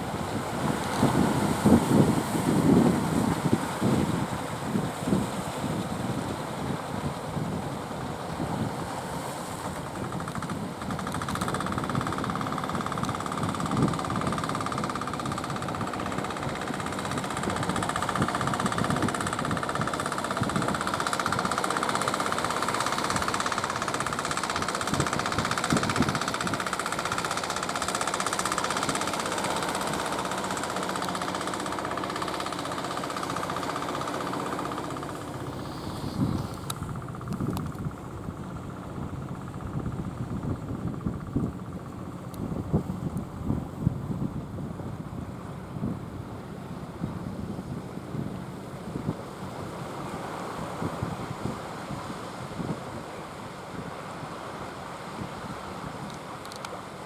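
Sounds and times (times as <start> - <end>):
high engine whine: 0.0 - 50.8
motorboat engine knocking rumble: 0.0 - 51.6.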